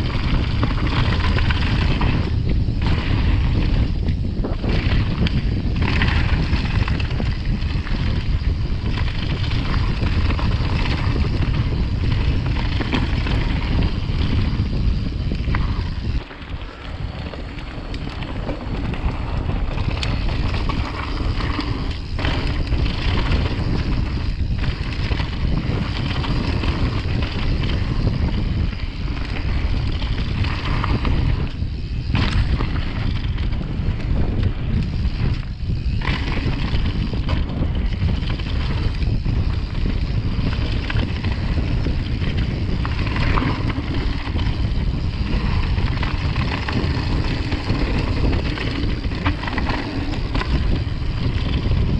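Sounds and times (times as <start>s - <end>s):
wind on microphone: 0.0s - 51.9s.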